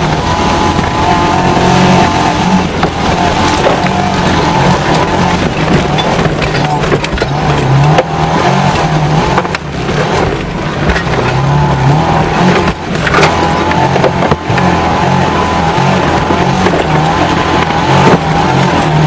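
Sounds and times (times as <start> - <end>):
car engine revving under load: 0.0 - 19.0
car jolting knocks and bangs: 0.0 - 19.0.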